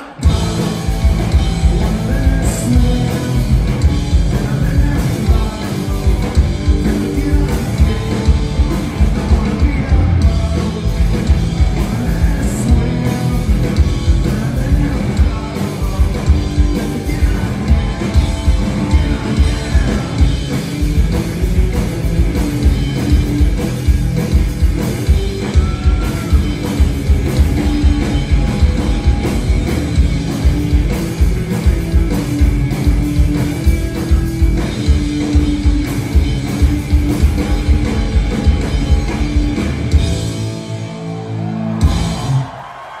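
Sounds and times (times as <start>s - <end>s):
punk rock band playing: 0.0s - 43.0s.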